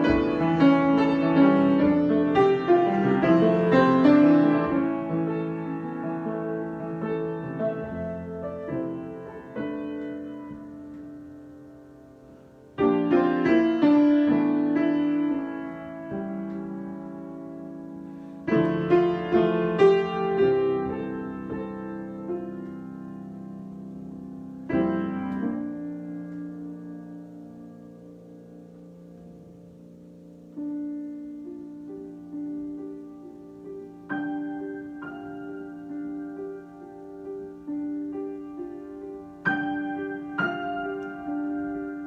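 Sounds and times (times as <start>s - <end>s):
solo piano chords: 0.0s - 42.0s.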